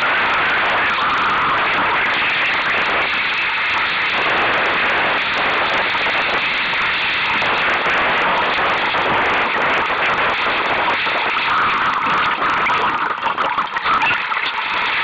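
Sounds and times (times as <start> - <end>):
water rushing: 0.0 - 15.0
wind rushing: 0.0 - 15.0.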